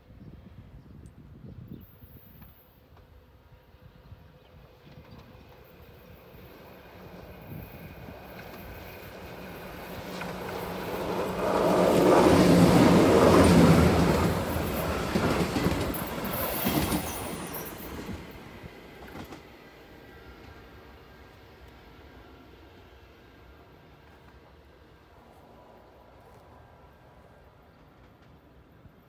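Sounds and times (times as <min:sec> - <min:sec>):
train wheels rolling on rails: 0:04.6 - 0:29.0.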